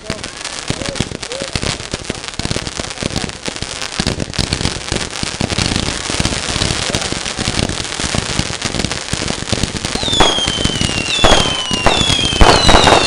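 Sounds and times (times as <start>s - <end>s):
firework bangs and crackles: 0.0s - 13.0s.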